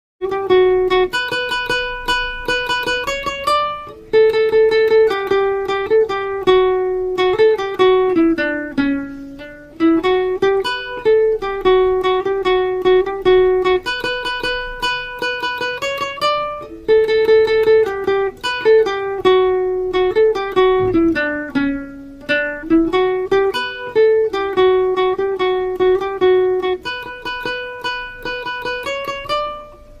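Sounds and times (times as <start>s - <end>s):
guitar ringtone melody: 0.2s - 30.0s.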